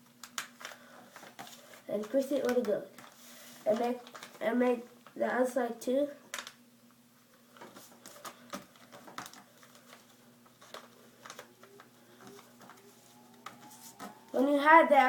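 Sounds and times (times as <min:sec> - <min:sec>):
faint steady hum: 0:00.0 - 0:15.0
paper rustling and creasing: 0:00.2 - 0:05.2, 0:07.6 - 0:15.0.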